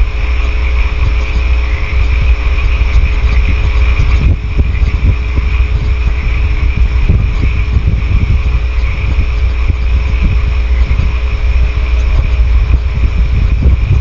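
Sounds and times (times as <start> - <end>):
electrical hum: 0.0 - 14.0
low rumble and hiss: 0.0 - 14.0.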